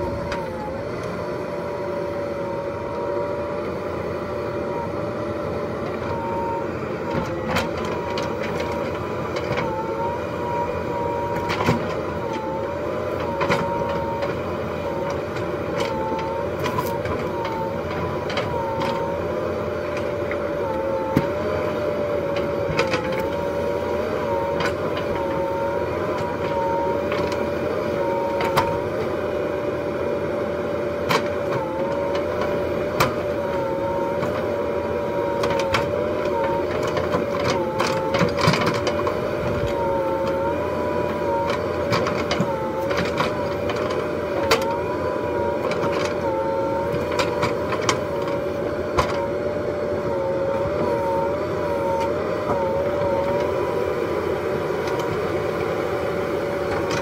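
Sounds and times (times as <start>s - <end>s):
diesel engine running under load: 0.0s - 57.0s
hydraulic whine: 0.0s - 57.0s.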